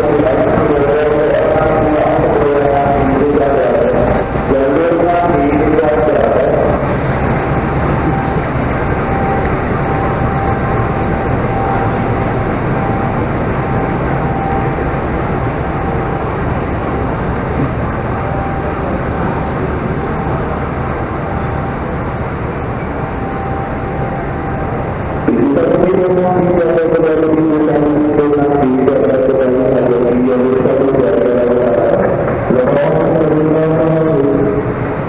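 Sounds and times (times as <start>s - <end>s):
thin steady whine: 0.0s - 35.0s
train machinery low drone: 0.0s - 35.0s.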